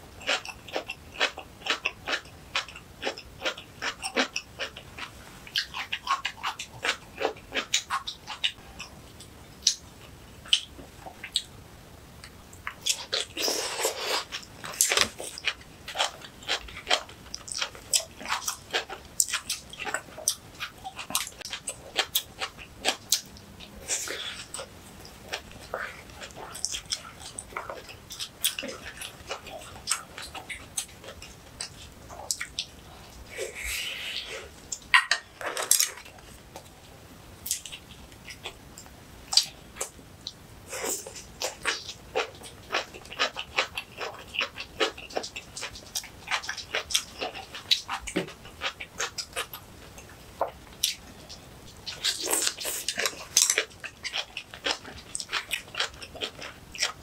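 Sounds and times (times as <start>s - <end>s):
crunchy chewing: 0.2s - 11.5s, 12.2s - 36.8s, 37.4s - 57.0s.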